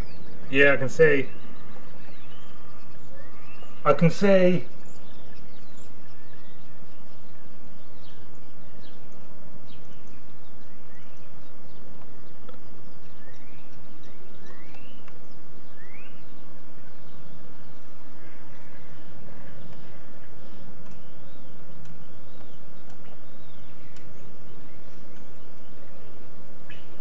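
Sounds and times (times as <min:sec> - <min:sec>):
low background noise: 0:00.0 - 0:27.0
small birds chirping: 0:00.0 - 0:27.0.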